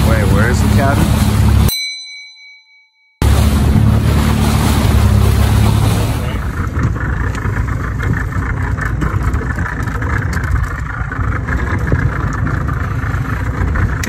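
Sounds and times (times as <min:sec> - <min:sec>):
outboard motor running: 0:00.0 - 0:02.2, 0:03.2 - 0:14.0.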